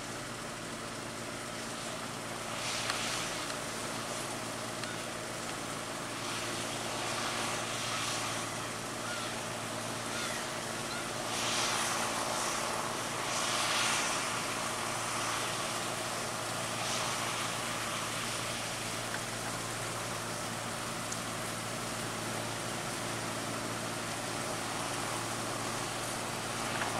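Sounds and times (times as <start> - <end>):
harvester engine drone: 0.0 - 26.9
rushing machinery noise: 0.0 - 26.9.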